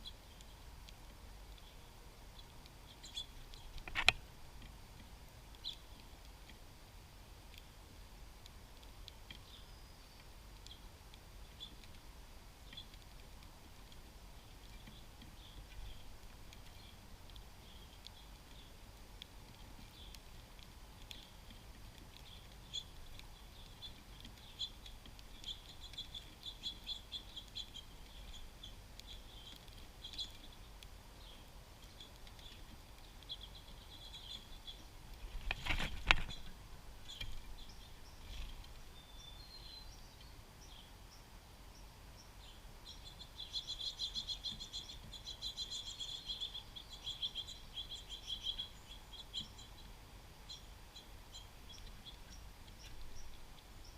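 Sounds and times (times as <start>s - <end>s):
songbirds chirping and twittering: 0.0s - 53.9s.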